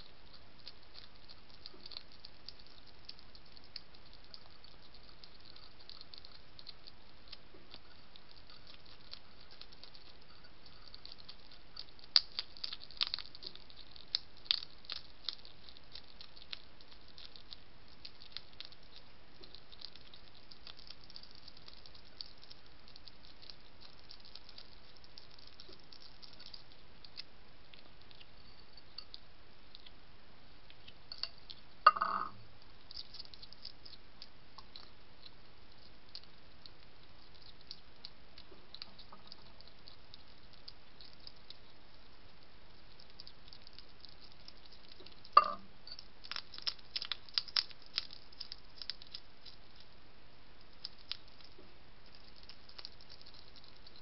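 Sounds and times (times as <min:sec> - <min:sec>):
hedgehog crunching dry food: 0:00.0 - 0:30.0, 0:32.6 - 0:54.0
faint steady hiss: 0:00.0 - 0:54.0.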